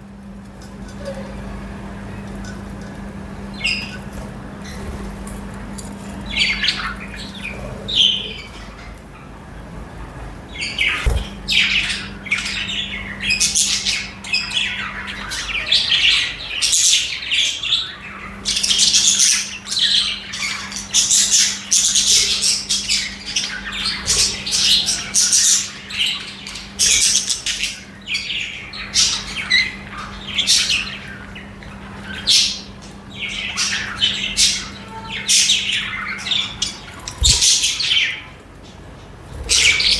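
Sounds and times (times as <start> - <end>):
budgies chirping and squawking: 3.5 - 5.2, 6.0 - 9.3, 10.6 - 38.3, 39.2 - 39.9.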